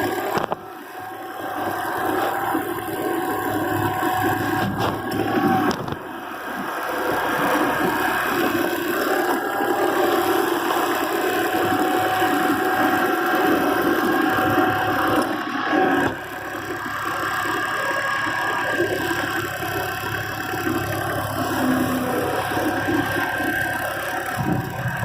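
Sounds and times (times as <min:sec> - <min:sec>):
diesel tractor engine running: 0:00.0 - 0:25.0
steady whine: 0:00.0 - 0:25.0.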